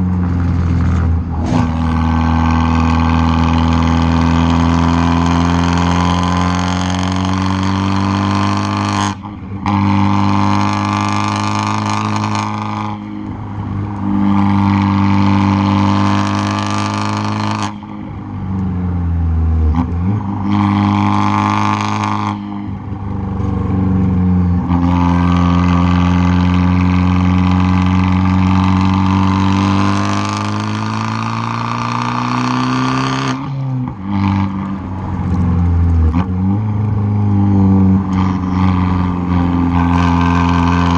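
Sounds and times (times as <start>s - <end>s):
car exhaust running hard: 0.0s - 40.9s.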